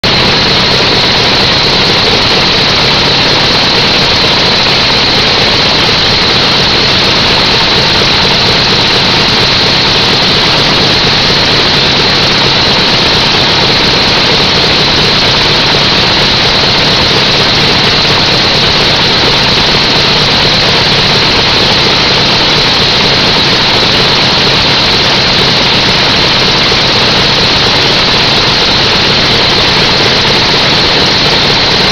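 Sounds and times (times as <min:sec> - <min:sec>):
engine running loudly: 0:00.0 - 0:31.9.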